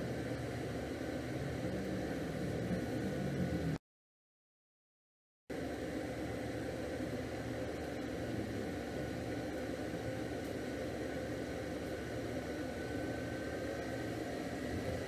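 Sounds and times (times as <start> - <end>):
faint steady whines: 0.0 - 3.8, 5.5 - 15.0
machine hum with hiss: 0.0 - 3.8, 5.5 - 15.0.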